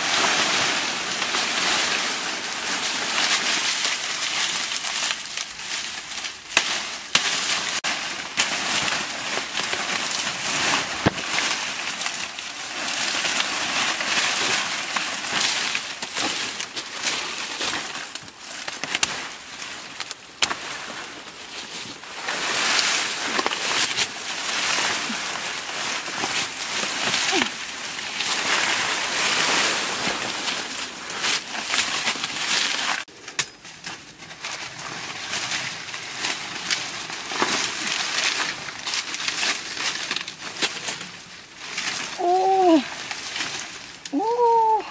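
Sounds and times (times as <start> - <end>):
dry leaves rustling and crackling: 0.0 - 44.9.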